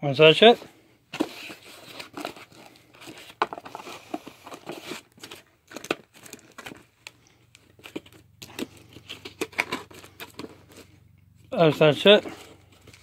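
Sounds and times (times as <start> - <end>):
cardboard scraping and rustling: 1.1 - 7.0, 7.7 - 11.0, 11.6 - 13.0.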